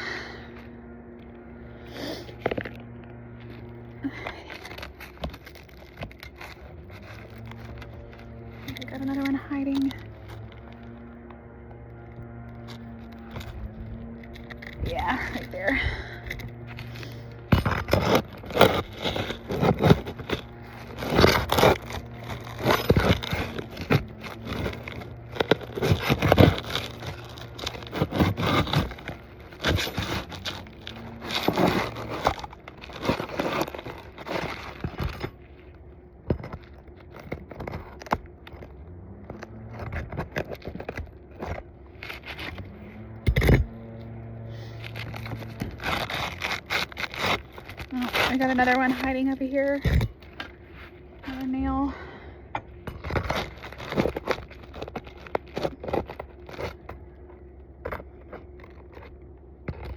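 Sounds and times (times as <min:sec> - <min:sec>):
steady low hum: 0:00.0 - 0:59.9
metal tool scraping shingles: 0:01.7 - 0:52.0, 0:52.6 - 0:59.9.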